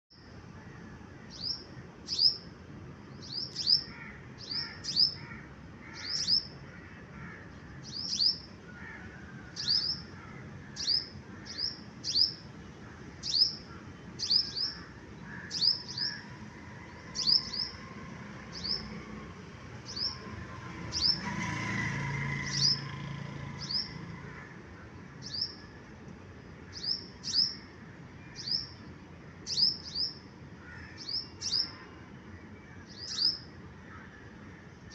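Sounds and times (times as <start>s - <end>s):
songbird chirping: 0.1s - 6.6s, 7.5s - 19.2s, 19.8s - 24.2s, 24.9s - 34.9s.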